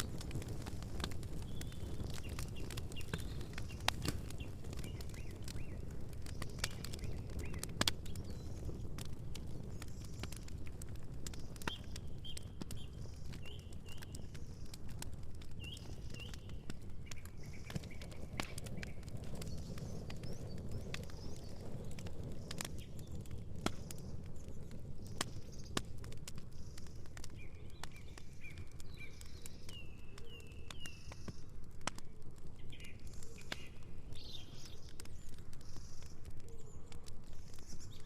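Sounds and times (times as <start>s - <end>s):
campfire crackling: 0.0s - 38.0s
small birds chirping: 0.0s - 38.0s.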